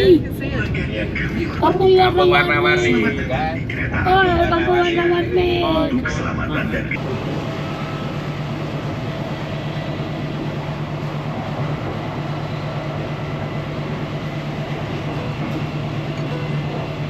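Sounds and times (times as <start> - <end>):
train carriage running noise: 0.0 - 17.0.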